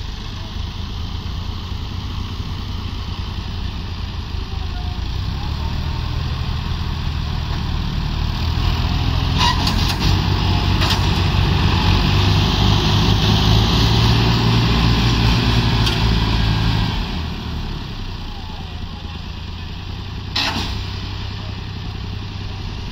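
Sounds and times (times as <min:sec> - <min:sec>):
diesel tractor engine under load: 0:00.0 - 0:22.9.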